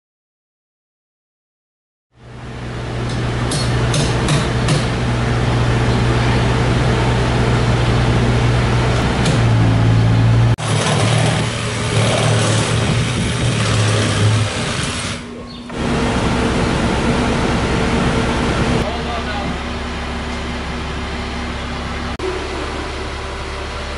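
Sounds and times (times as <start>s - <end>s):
machinery running with low drone: 2.2s - 23.9s.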